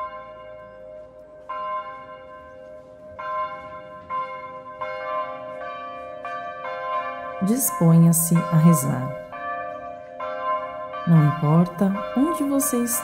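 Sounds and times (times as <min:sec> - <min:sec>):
bell chimes: 0:00.0 - 0:13.0.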